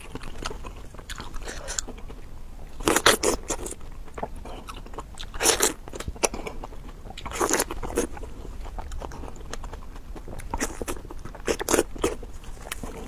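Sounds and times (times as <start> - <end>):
crunchy bites and chewing: 0.0 - 13.0.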